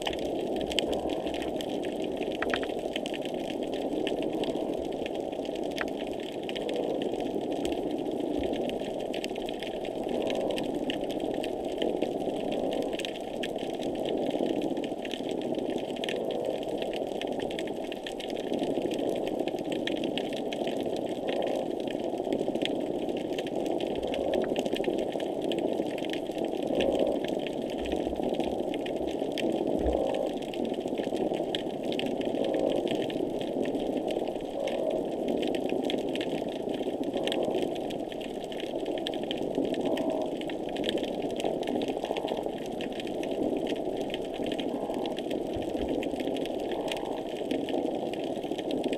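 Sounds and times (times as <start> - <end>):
crackle of fine clicks: 0.0 - 48.9.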